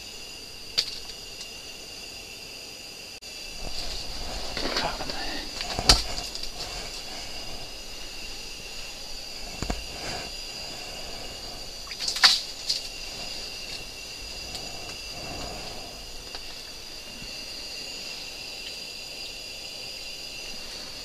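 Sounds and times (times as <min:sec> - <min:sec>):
steady high-pitched whine: 0:00.0 - 0:21.0.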